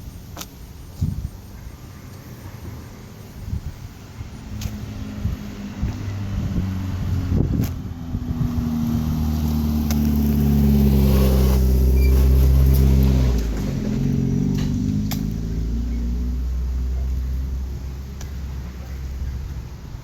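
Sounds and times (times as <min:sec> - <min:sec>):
vehicle engine running: 0:03.2 - 0:20.0.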